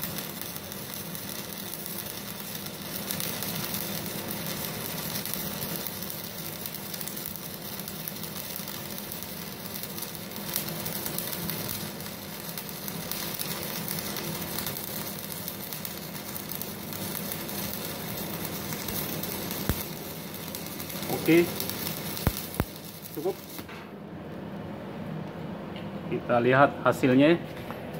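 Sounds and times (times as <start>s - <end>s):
welding arc crackling: 0.0s - 23.8s
welding arc pops: 0.0s - 23.9s.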